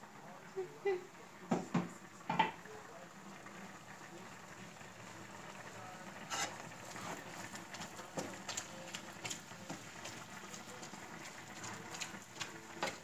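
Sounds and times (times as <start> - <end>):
meat sizzling in a skillet: 0.8 - 13.0.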